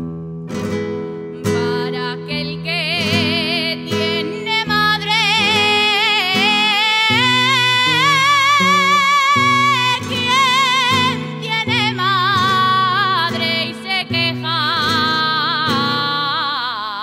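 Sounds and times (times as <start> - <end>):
solo voice singing with vibrato: 1.4 - 17.0.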